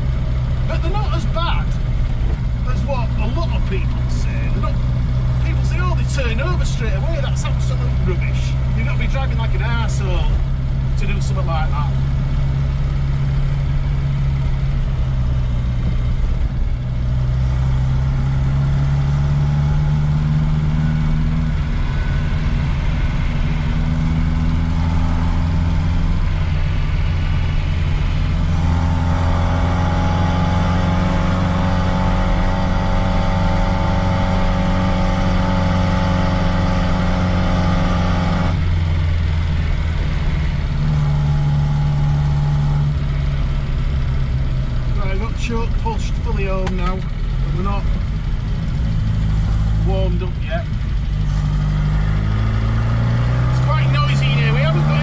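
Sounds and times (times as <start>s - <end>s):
car engine driving: 0.0s - 55.0s.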